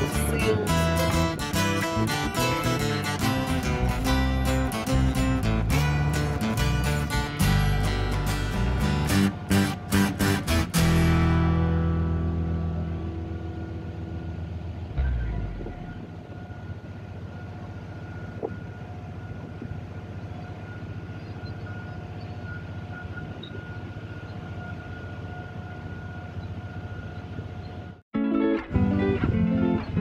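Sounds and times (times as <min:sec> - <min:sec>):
ferry engine drone: 0:00.0 - 0:28.0.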